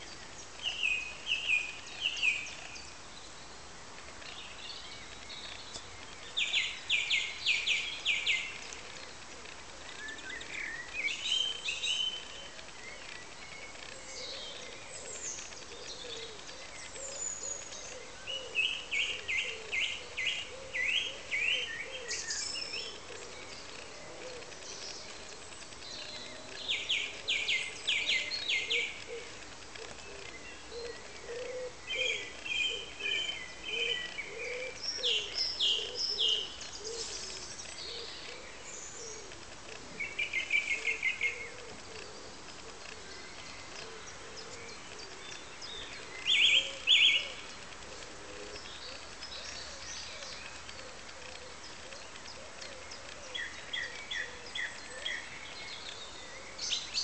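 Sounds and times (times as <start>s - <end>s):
steady outdoor hiss: 0.0s - 57.0s
songbird trilling: 4.2s - 57.0s.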